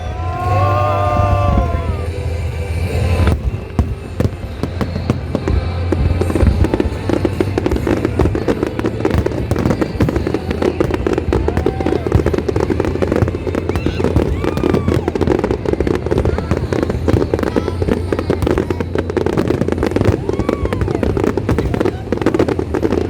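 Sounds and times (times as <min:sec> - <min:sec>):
fireworks banging and crackling: 0:00.0 - 0:23.0
music playing: 0:00.0 - 0:23.0.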